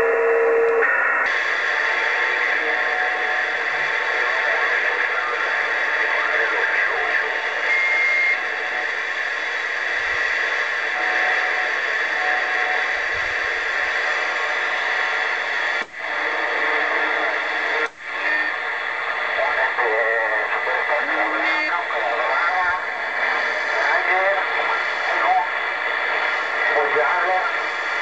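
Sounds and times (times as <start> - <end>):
radio static rush: 0.0 - 28.0.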